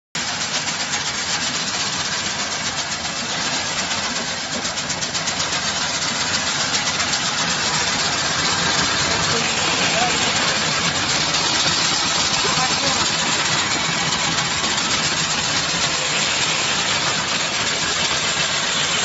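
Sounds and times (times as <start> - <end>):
grain machine rattling: 0.2 - 19.0.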